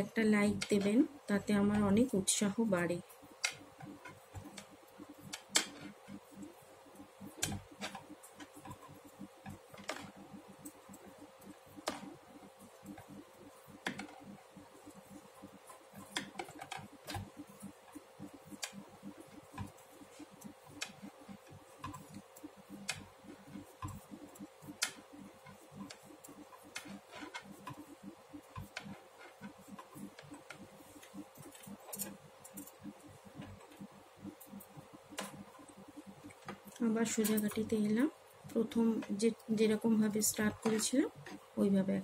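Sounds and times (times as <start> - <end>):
faint steady hum: 0.0 - 42.0
knitting needles clicking: 0.4 - 1.0, 3.4 - 6.5, 7.2 - 41.5.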